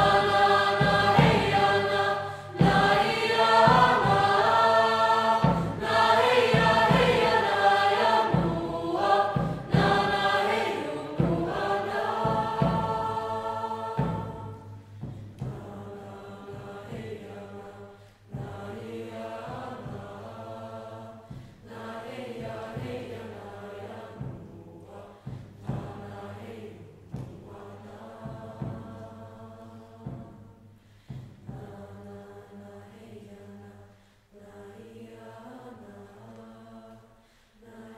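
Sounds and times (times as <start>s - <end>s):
mixed choir chanting: 0.0s - 37.9s.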